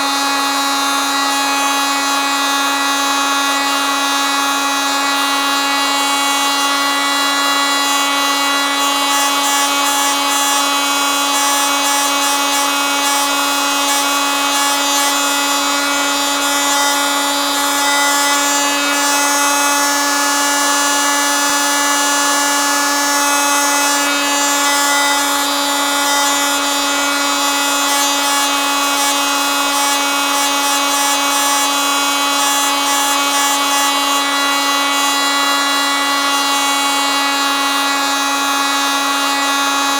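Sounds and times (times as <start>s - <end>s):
oscillating multitool buzzing: 0.0s - 39.9s.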